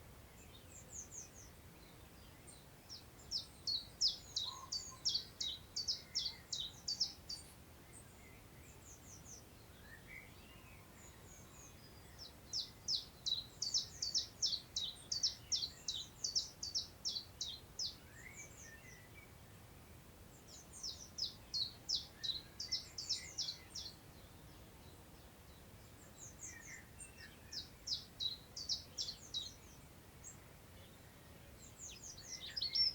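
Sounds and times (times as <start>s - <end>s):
small songbird singing: 0.0s - 32.9s.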